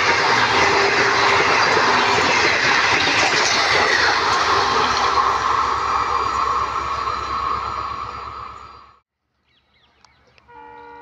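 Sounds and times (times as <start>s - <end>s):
train coaches rattling past: 0.0s - 9.0s.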